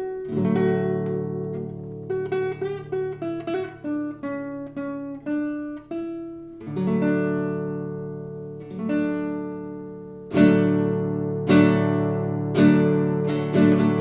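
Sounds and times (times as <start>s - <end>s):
classical guitar fingerpicking: 0.0s - 14.0s.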